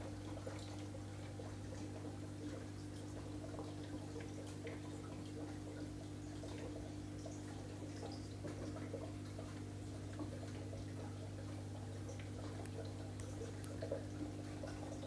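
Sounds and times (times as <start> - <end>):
aquarium equipment humming: 0.0 - 15.0
water ticks and drips: 0.0 - 15.0.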